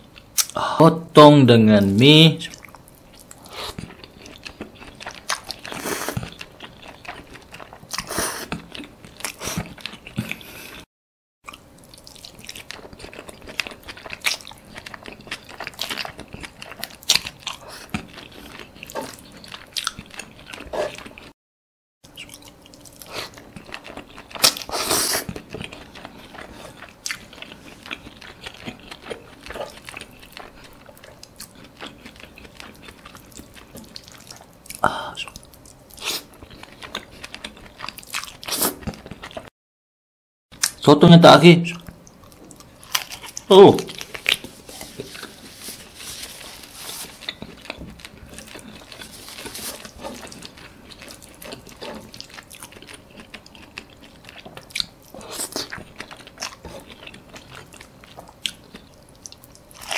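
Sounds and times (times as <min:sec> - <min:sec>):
chewing noodles: 0:02.5 - 0:10.9, 0:11.5 - 0:21.4, 0:22.1 - 0:39.5, 0:42.0 - 0:59.9.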